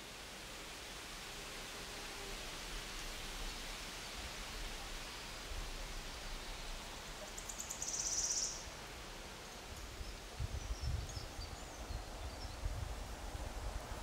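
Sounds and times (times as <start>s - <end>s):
forest hiss: 0.0s - 14.0s.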